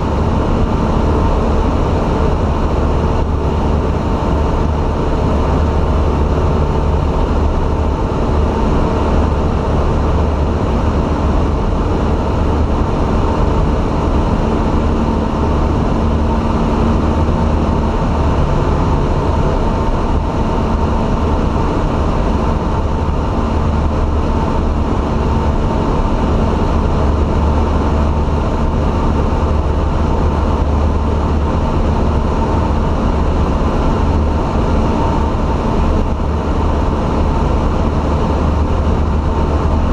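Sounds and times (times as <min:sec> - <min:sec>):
light aircraft engine drone: 0:00.0 - 0:39.9
rushing air noise: 0:00.0 - 0:39.9.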